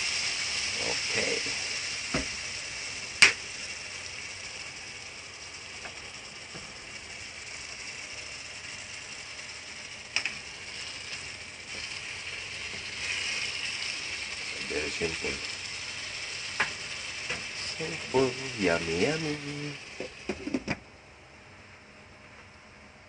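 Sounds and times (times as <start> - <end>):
livers sizzling in pot: 0.0 - 22.6.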